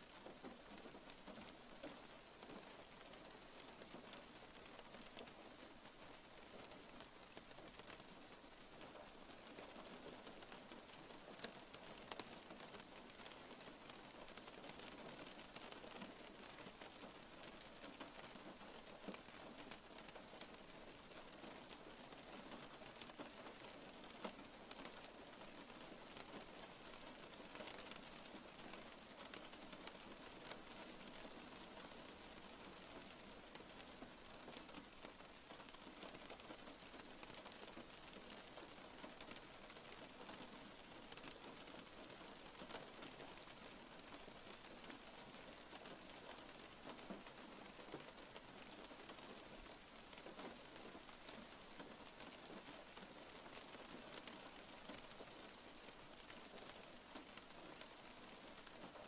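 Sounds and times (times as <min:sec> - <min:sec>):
faint steady rainfall: 0:00.0 - 0:59.0.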